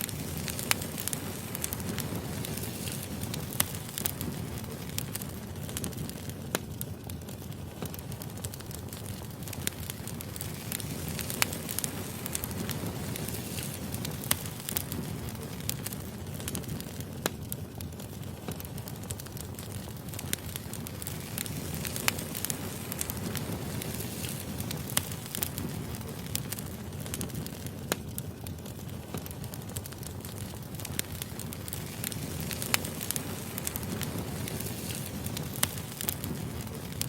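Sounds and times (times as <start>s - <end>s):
firewood crackling and popping: 0.0s - 37.0s
low rumble of flames: 0.0s - 37.0s.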